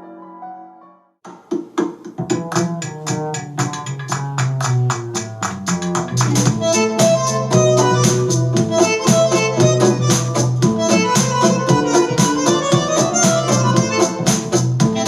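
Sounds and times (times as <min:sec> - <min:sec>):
music with steady beat and bass: 0:01.3 - 0:15.0.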